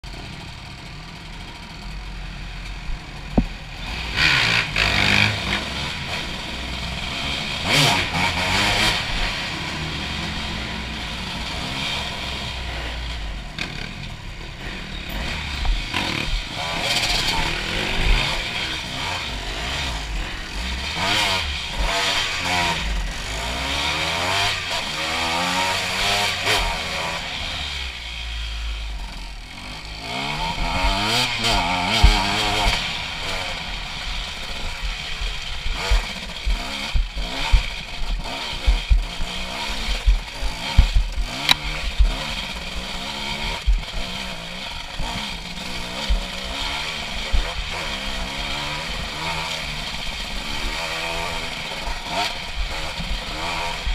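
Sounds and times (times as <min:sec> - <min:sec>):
dirt bike engine revving: 0:00.1 - 0:53.9.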